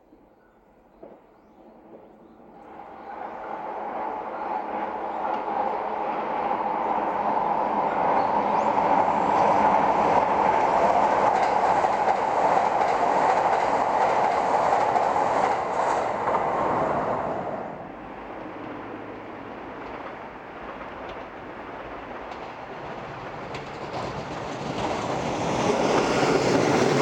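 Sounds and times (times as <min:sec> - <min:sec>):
electric train passing at speed: 0:01.4 - 0:27.0.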